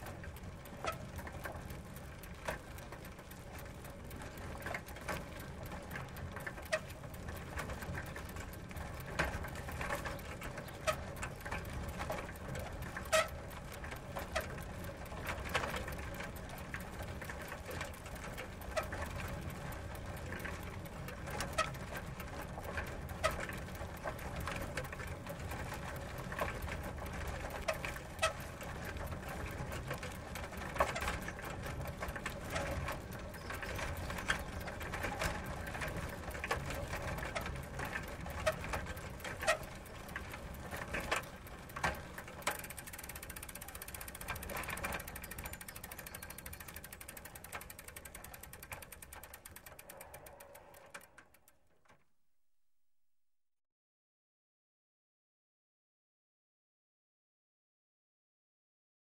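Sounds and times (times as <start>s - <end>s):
bicycle drivetrain ticking: 0.0s - 52.1s.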